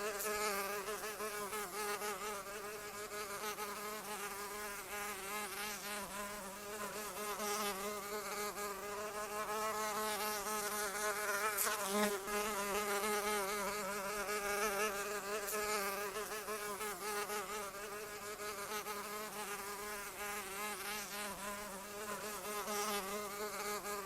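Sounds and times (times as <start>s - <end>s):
flying insect buzzing: 0.0s - 24.0s.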